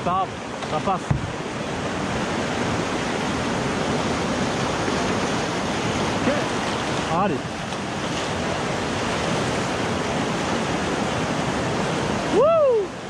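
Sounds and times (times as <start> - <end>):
whitewater rushing over rocks: 0.0 - 13.0.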